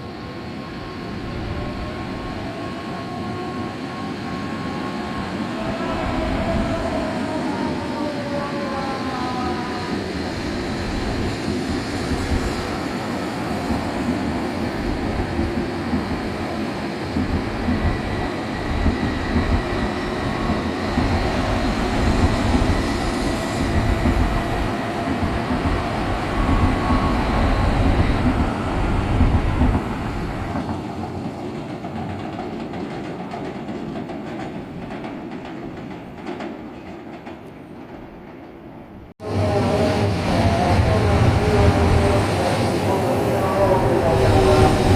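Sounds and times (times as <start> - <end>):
train passing with rail noise: 0.0 - 44.9.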